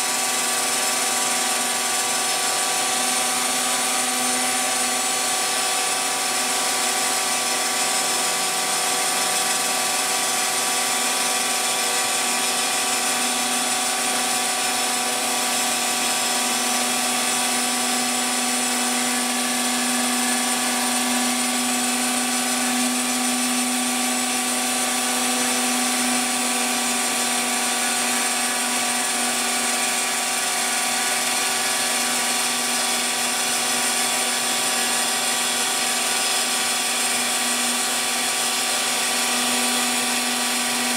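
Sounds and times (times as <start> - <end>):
bit cutting fibreglass: 0.0 - 40.9
mill spindle whining: 0.0 - 40.9.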